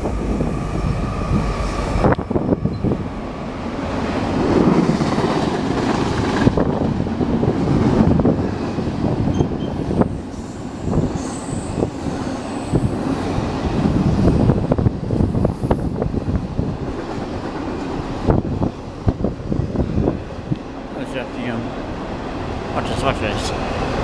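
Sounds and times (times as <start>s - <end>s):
railroad cars rumbling past: 0.0s - 24.0s.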